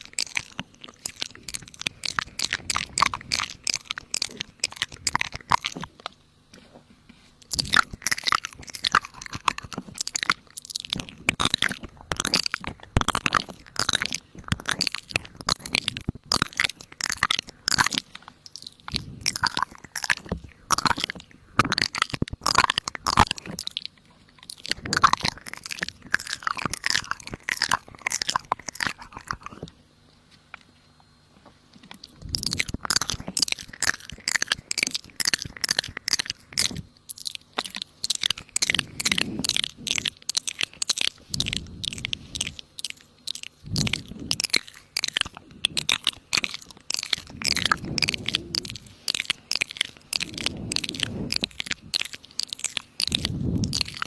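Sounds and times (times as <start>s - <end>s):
rapid irregular crunching: 0.0s - 30.7s, 31.4s - 54.0s.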